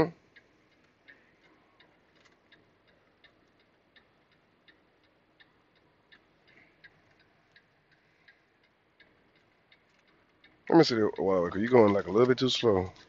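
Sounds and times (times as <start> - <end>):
faint even ticking: 0.0 - 13.0.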